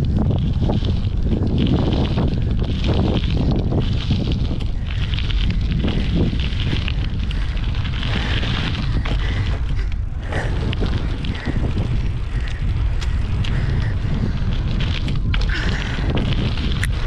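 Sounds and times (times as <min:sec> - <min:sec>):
bike tyres rolling on dirt: 0:00.0 - 0:17.0
wind buffeting microphone: 0:00.0 - 0:17.0.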